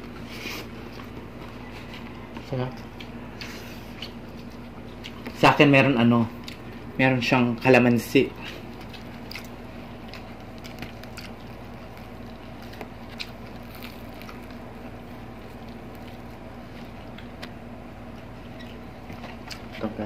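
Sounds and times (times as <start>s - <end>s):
soft chewing: 0.0s - 6.9s, 7.5s - 20.0s.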